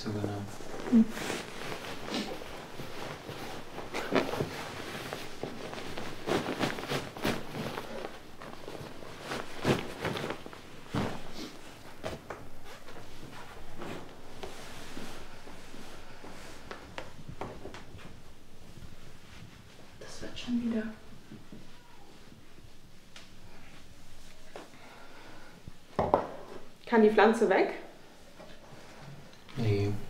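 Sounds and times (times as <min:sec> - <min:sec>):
rustling of bed linen: 0:00.0 - 0:26.8.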